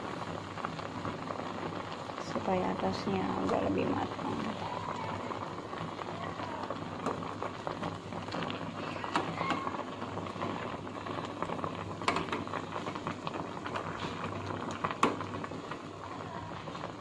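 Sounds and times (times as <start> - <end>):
broth bubbling at a boil: 0.0 - 17.0.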